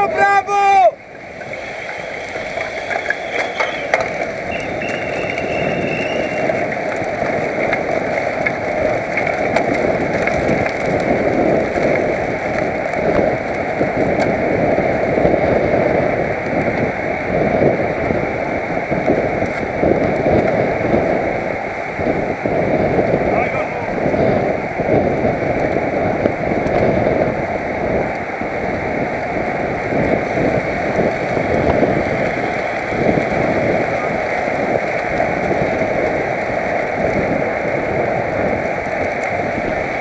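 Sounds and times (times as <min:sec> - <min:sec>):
road noise: 0:00.0 - 0:40.0
wind rushing over microphone: 0:00.0 - 0:40.0.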